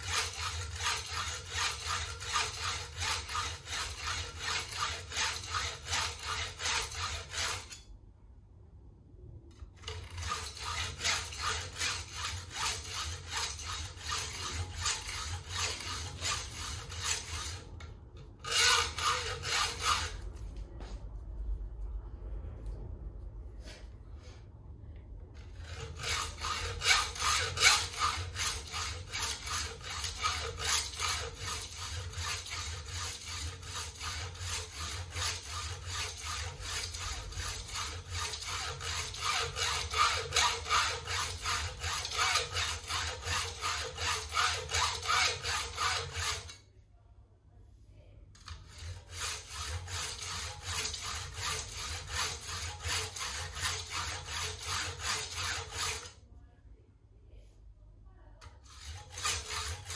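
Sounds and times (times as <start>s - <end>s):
hacksaw cutting: 0.0s - 7.8s, 9.8s - 20.3s, 25.4s - 46.6s, 48.4s - 56.2s, 58.7s - 59.9s.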